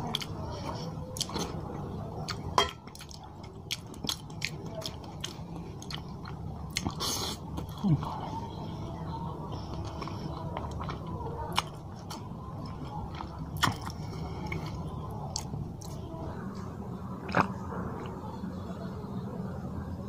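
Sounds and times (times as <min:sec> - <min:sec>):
man chewing food: 0:00.0 - 0:16.0, 0:17.2 - 0:18.2.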